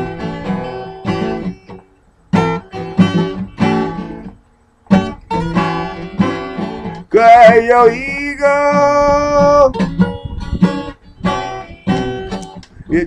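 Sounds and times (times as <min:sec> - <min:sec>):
acoustic guitar strumming blues: 0:00.0 - 0:13.0.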